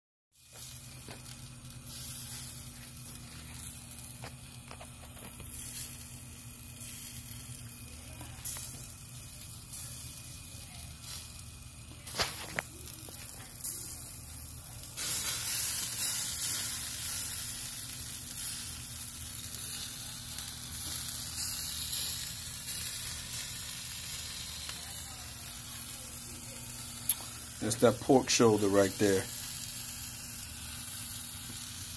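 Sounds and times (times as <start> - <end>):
meat sizzling on a grill: 0.3 - 31.9.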